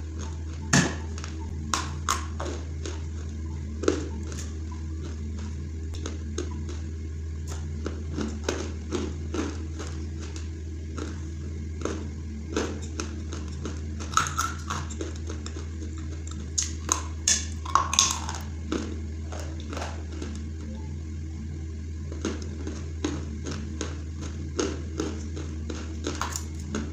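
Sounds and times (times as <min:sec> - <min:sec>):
chewing crunchy clay: 0:00.0 - 0:20.9, 0:21.8 - 0:26.9
steady low hum: 0:00.0 - 0:26.9.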